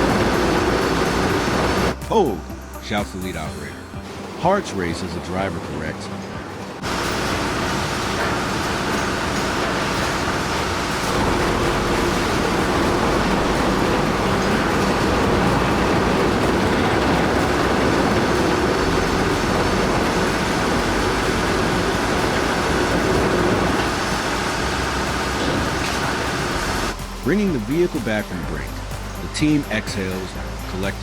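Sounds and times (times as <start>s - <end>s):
heavy machinery droning: 0.0s - 31.0s.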